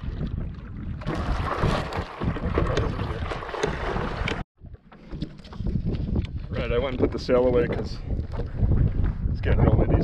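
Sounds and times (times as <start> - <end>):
water splashing against board: 0.0 - 9.1
wind buffeting microphone: 0.0 - 10.0.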